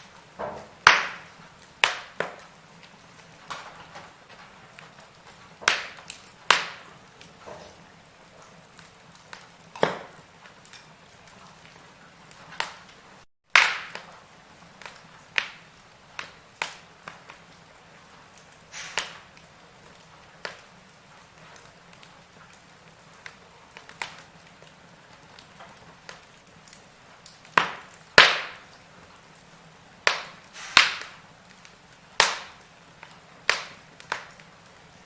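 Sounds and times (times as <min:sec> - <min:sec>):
faint steady hiss: 0:00.0 - 0:35.0
wood fire crackling: 0:00.0 - 0:35.0.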